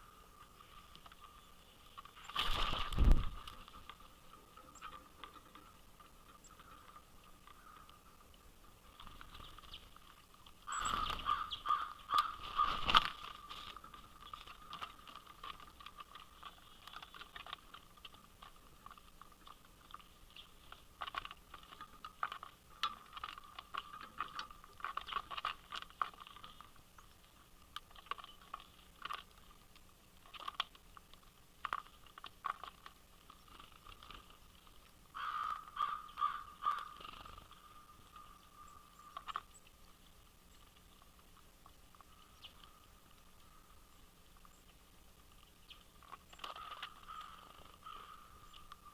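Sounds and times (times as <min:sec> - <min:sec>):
crow pecking at seed: 0:00.0 - 0:48.9.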